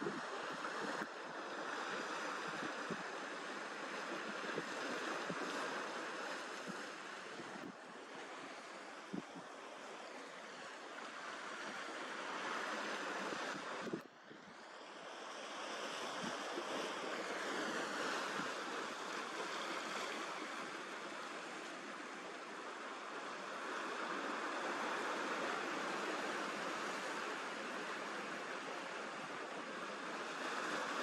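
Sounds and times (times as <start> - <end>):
sea surf on rocky shore: 0.0 - 31.0.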